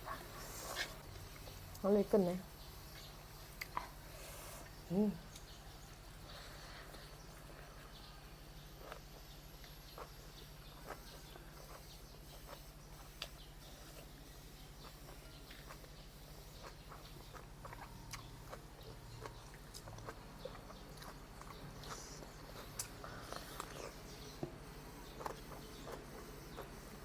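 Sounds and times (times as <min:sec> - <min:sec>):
steady low hum: 0:00.0 - 0:27.0
chewing and mouth noises: 0:02.9 - 0:27.0.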